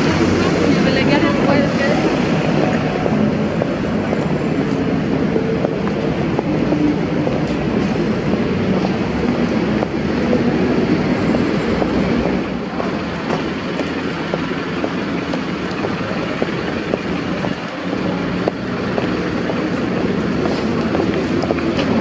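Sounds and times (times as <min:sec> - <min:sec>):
city street rumble: 0:00.0 - 0:22.0
footsteps on stone paving: 0:00.0 - 0:22.0.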